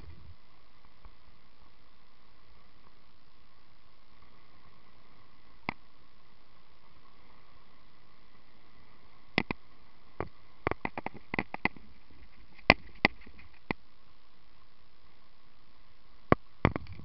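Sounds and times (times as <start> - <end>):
faint hiss: 0.0 - 17.0
thin high whine: 0.0 - 17.0.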